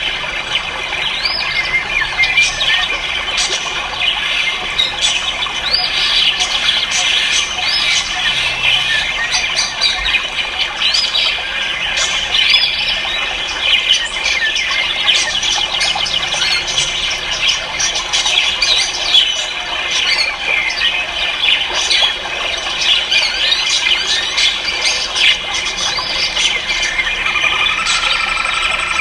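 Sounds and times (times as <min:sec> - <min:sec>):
birds chirping and squawking: 0:00.0 - 0:29.0.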